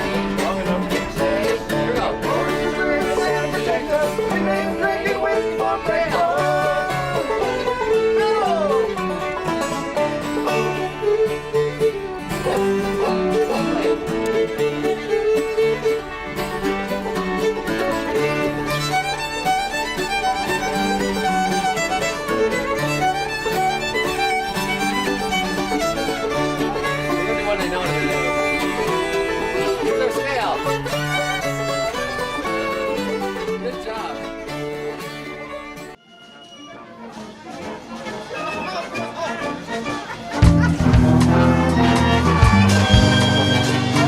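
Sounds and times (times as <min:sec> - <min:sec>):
banjo picking: 0:00.0 - 0:36.0, 0:37.0 - 0:44.0
bluegrass string band music: 0:00.0 - 0:44.0.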